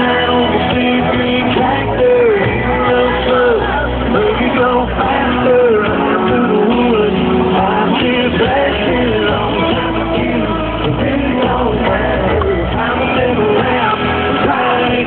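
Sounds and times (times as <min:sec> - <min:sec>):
live country band playing: 0:00.0 - 0:15.0.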